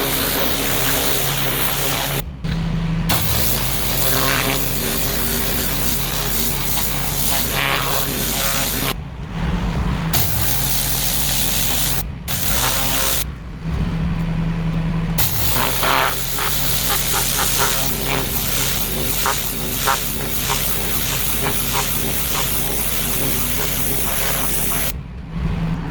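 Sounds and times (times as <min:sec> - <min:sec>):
high-pressure water jet hissing: 0:00.0 - 0:02.3, 0:03.1 - 0:09.0, 0:10.1 - 0:13.3, 0:15.2 - 0:25.0
pressure washer engine hum: 0:00.0 - 0:13.6, 0:14.5 - 0:25.0.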